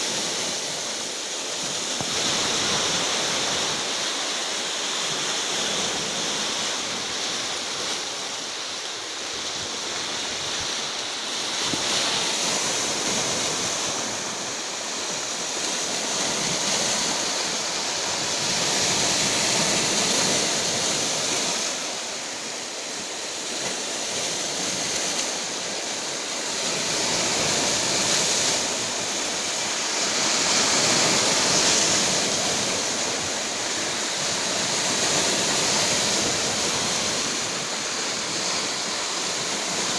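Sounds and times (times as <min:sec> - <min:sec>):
stormy surf rushing: 0:00.0 - 0:39.9.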